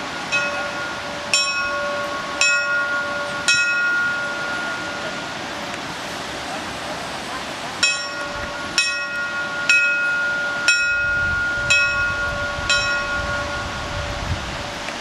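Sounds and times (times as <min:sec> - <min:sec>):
small church bell ringing: 0:00.0 - 0:06.0, 0:07.8 - 0:14.8.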